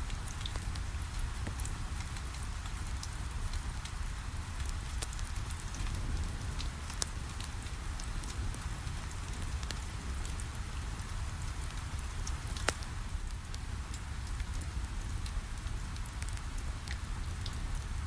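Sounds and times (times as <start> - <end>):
rain on a window: 0.0 - 18.0
wood fire crackling: 0.2 - 17.6.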